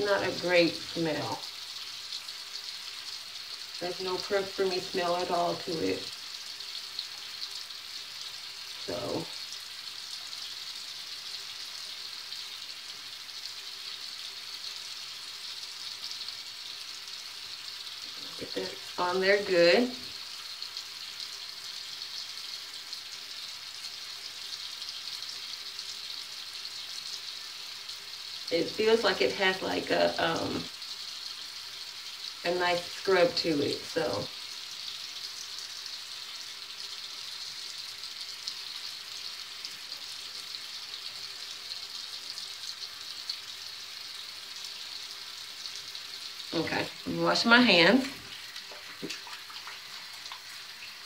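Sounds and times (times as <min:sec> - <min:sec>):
background hiss: 0:00.0 - 0:51.0.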